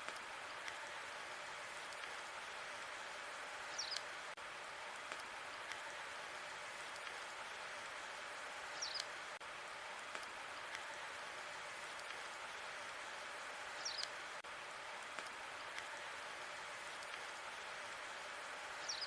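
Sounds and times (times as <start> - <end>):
wood fire hissing and crackling: 0.0 - 19.0.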